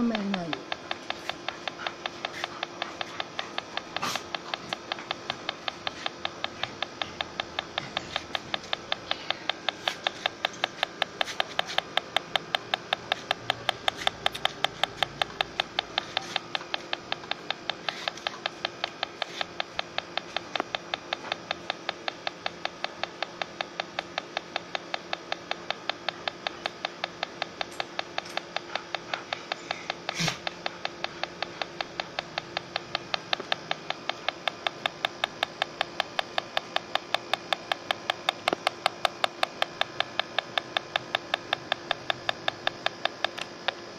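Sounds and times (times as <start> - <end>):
leak detector ticking rapidly: 0.0 - 43.9.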